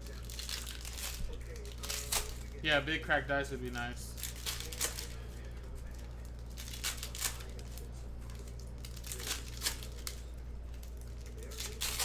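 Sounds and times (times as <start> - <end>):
steady low hum: 0.0 - 12.0
wrappers crinkling and tearing: 0.0 - 12.0.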